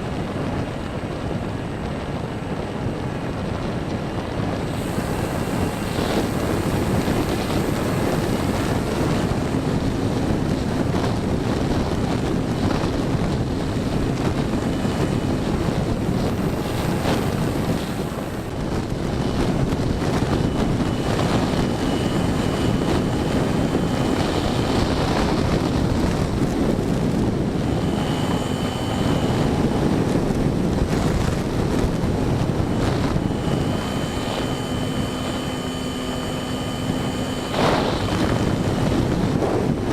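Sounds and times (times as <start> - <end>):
electric motor and propeller drone: 0.0 - 39.9
wind rushing over microphone: 0.0 - 39.9.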